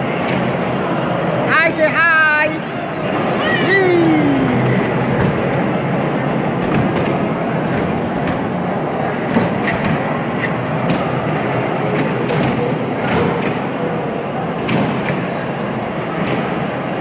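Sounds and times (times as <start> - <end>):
kiddie train ride rumbling: 0.0 - 17.0.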